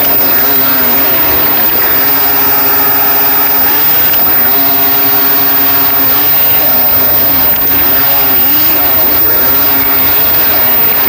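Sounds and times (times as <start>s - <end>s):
small electric motor droning: 0.0s - 11.0s.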